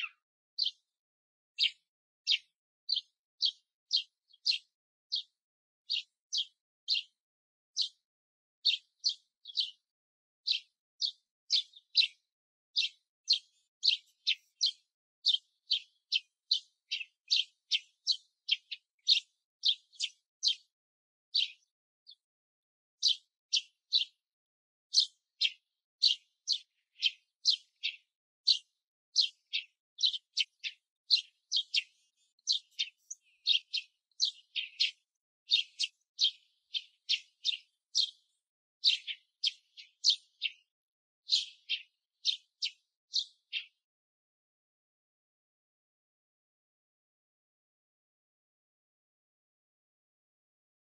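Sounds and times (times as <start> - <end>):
sparrow chirping: 0.0 - 43.8.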